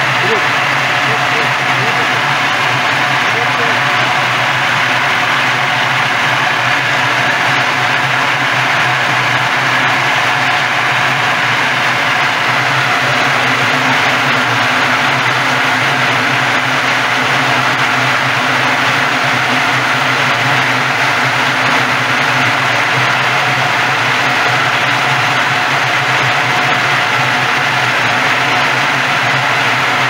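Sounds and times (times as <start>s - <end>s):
continuous rushing noise: 0.0s - 30.0s
machine humming: 0.0s - 30.0s.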